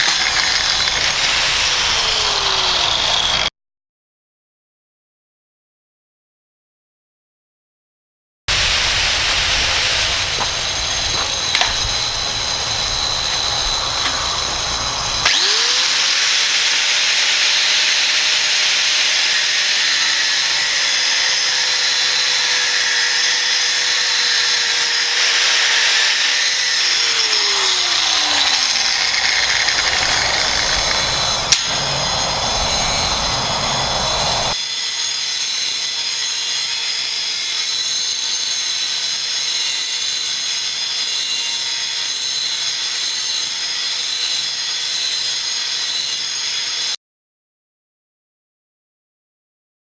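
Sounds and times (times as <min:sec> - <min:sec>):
angle grinder cutting metal: 0:00.0 - 0:03.5, 0:08.5 - 0:47.0.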